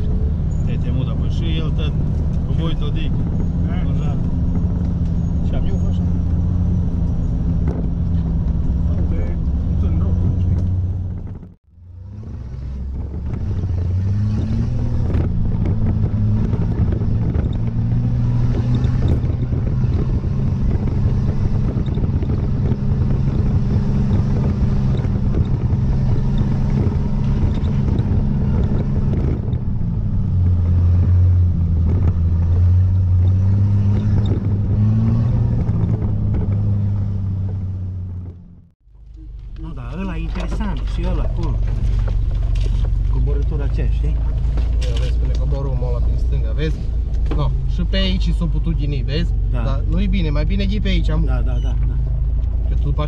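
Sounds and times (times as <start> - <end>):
off-road vehicle engine in low gear: 0.0 - 53.0.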